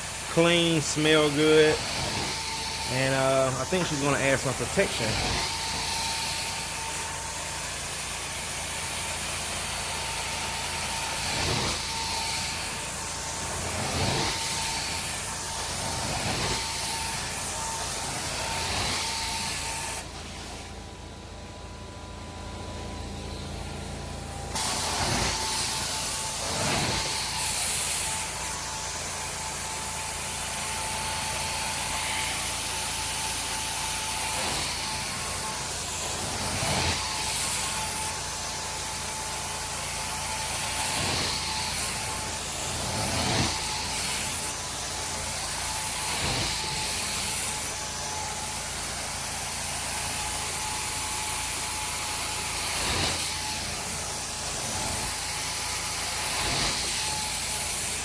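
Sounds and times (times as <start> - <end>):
carpet cleaning machine running: 0.0 - 58.0.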